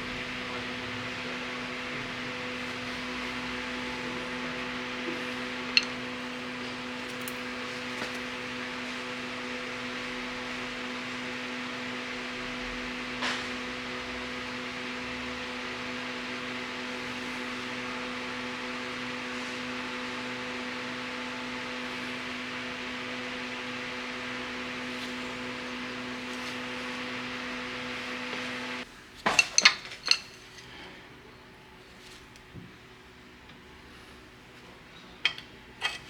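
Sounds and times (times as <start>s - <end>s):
steady hum with hiss: 0.0s - 36.0s.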